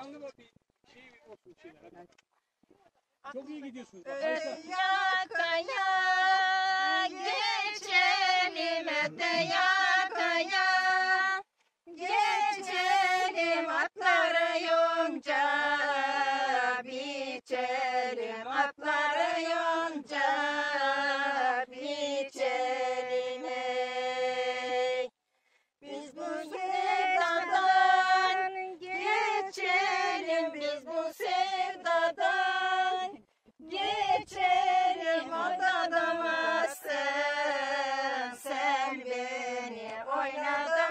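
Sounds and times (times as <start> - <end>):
women singing together: 4.1 - 25.2, 25.8 - 40.9.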